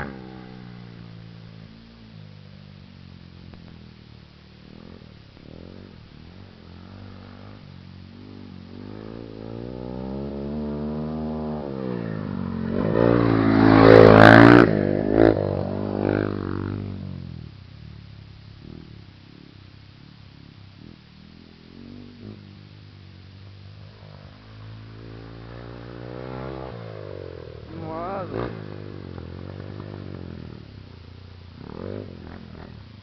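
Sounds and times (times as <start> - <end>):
motocross bike engine revving: 0.0 - 2.6, 3.2 - 17.6, 18.6 - 33.0.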